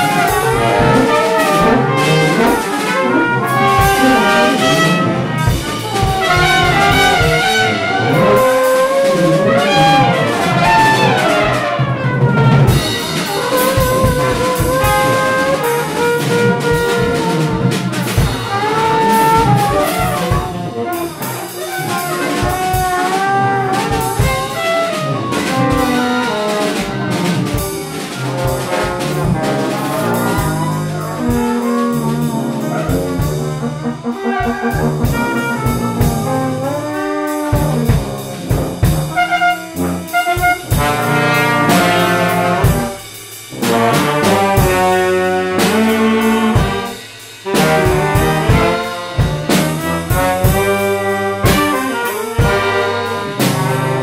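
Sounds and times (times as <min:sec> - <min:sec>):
drum kit: 0:00.0 - 0:54.0
trombone melody: 0:00.0 - 0:54.0.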